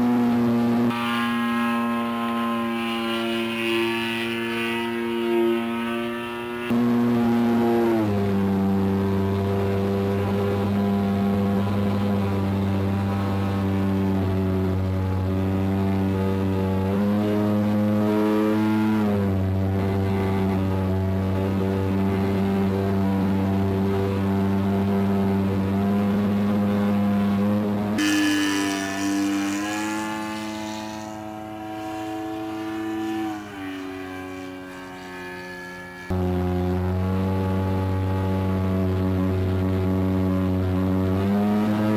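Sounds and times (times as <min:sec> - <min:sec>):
model airplane engine and propeller: 0:00.0 - 0:41.9.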